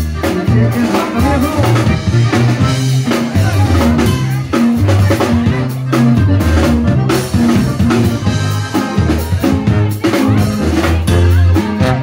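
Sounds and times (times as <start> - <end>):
accordion: 0.0 - 12.0
drum kit beat: 0.0 - 12.0
guitar: 0.0 - 12.0
sousaphone bass line: 0.0 - 12.0.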